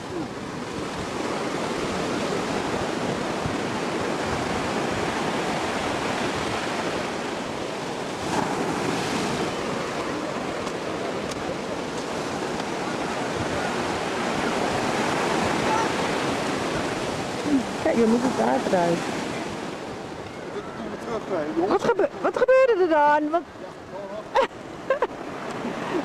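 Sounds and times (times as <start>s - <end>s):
ocean surf breaking on beach: 0.0s - 26.0s.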